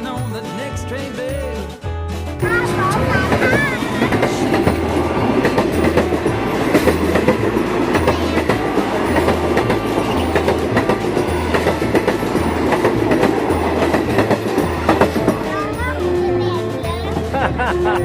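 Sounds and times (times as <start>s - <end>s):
train wheels clattering on rails: 2.4s - 17.5s.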